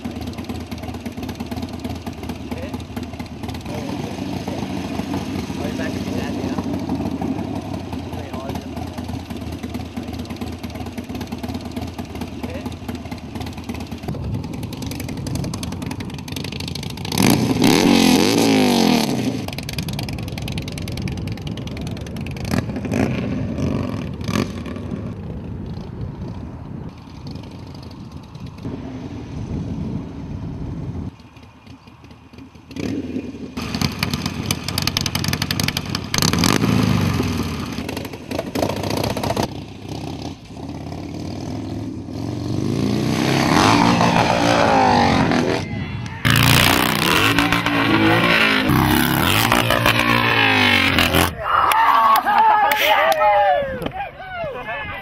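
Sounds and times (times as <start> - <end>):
motorcycle engine revving: 0.0 - 51.4.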